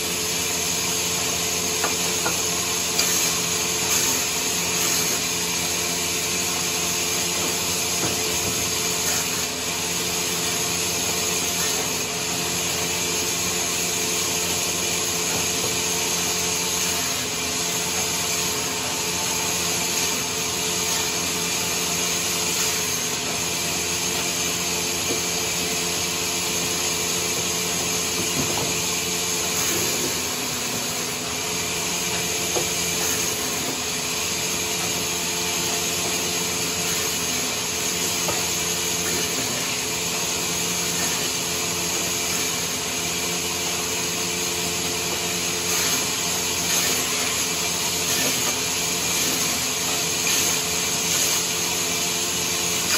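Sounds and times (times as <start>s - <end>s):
saw cutting through wood: 0.0s - 52.9s
saw motor humming: 0.0s - 52.9s.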